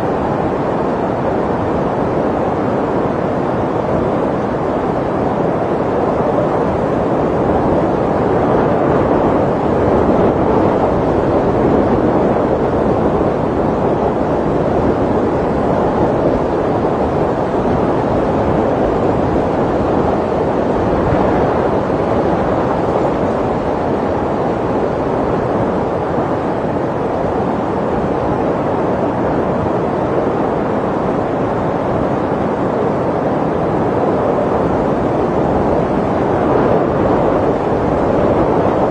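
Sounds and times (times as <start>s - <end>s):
snowstorm wind blowing: 0.0s - 38.9s.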